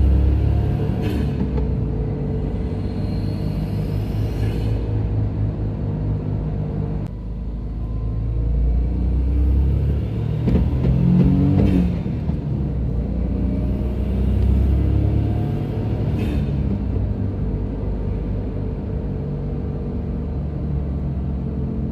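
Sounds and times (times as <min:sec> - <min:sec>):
car engine accelerating: 0:00.0 - 0:04.4, 0:05.2 - 0:21.9.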